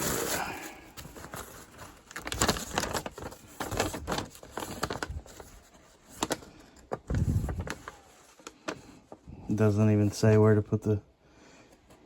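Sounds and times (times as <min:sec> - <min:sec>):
paper crinkling and rustling: 0:00.0 - 0:10.6.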